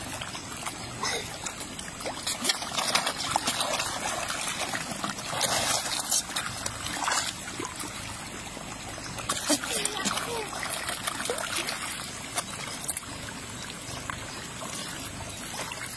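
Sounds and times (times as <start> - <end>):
fish splashing at surface: 0.0 - 15.9.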